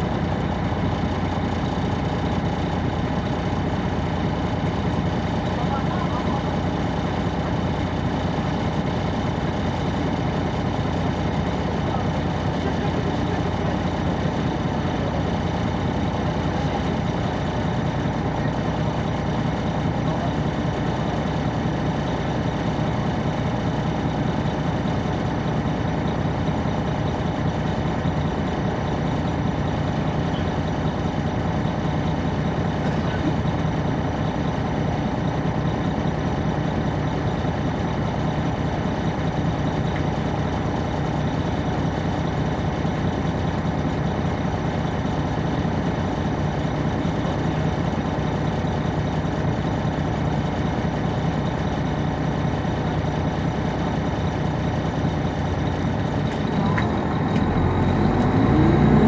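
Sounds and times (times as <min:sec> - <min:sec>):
diesel bus engine running: 0:00.0 - 0:59.0.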